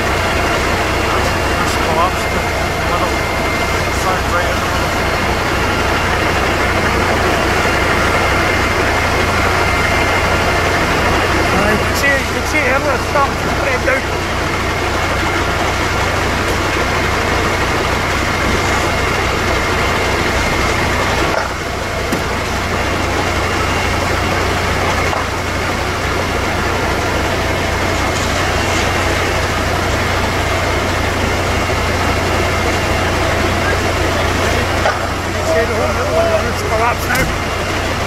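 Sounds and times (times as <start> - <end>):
fire engine diesel engine idling: 0.0 - 38.0
pump whine: 0.0 - 38.0.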